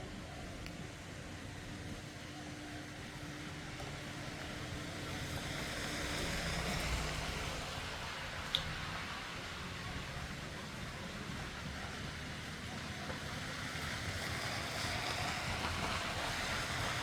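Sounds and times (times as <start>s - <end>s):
outdoor hiss and rumble: 0.0s - 17.0s.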